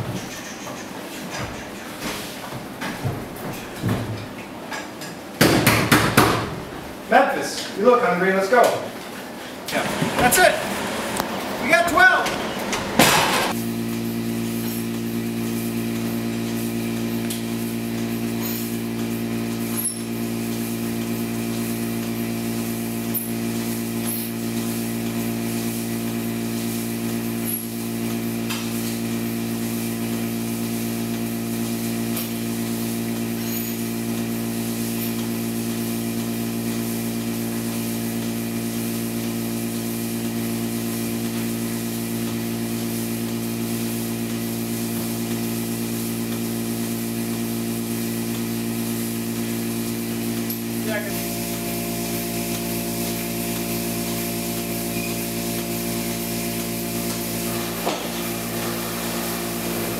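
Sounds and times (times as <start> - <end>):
milking machine humming: 8.6 - 59.9.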